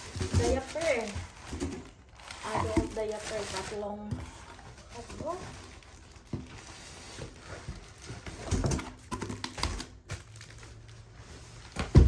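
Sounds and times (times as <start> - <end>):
plastic packs rustling and crinkling: 0.0 - 12.0.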